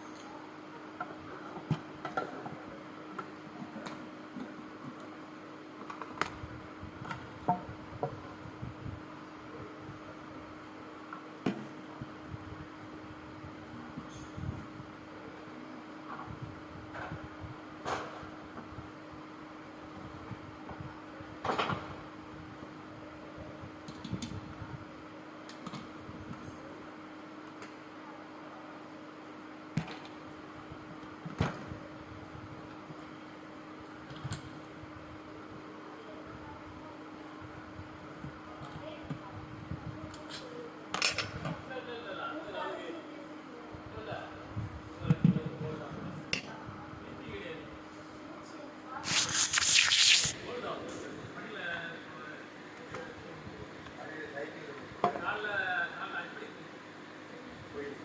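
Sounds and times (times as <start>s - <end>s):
low hum with faint hiss: 0.0s - 58.0s.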